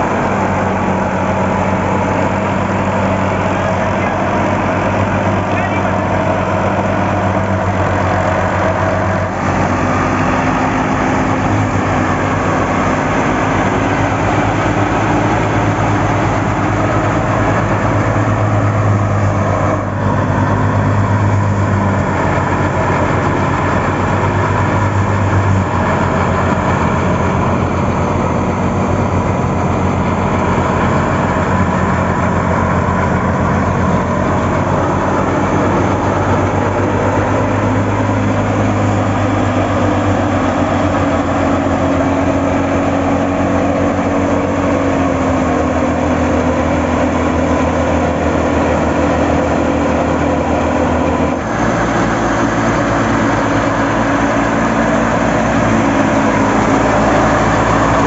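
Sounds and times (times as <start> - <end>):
thresher drum humming: 0.0 - 58.0
tractor engine: 0.0 - 58.0.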